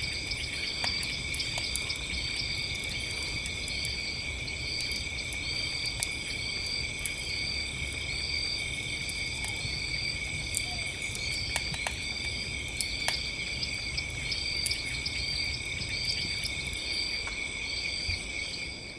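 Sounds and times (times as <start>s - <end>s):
campfire crackling and popping: 0.0s - 17.6s
insects trilling: 0.0s - 18.9s.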